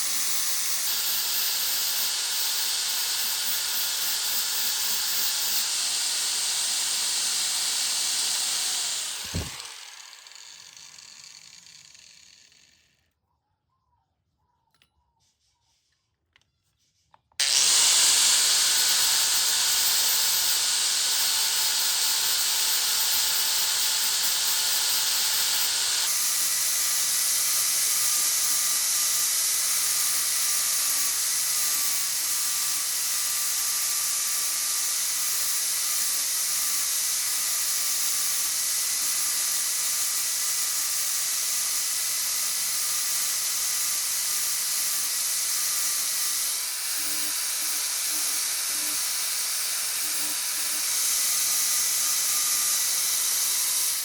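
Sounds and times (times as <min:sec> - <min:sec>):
power tool running with hiss: 0:00.0 - 0:12.5, 0:17.4 - 0:54.0.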